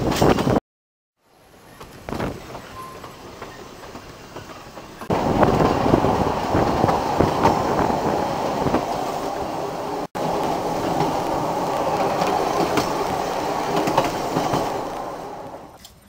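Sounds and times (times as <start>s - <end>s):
train running rumble: 1.7s - 15.8s
wheels clicking over rail joints: 1.7s - 16.0s.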